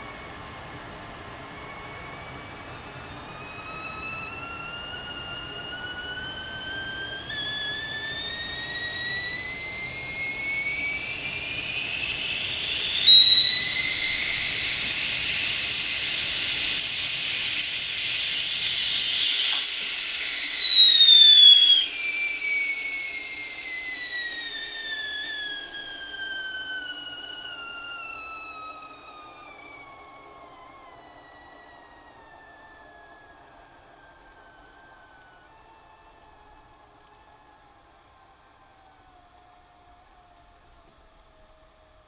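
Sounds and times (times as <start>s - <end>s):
whistling kettle: 0.0s - 42.0s.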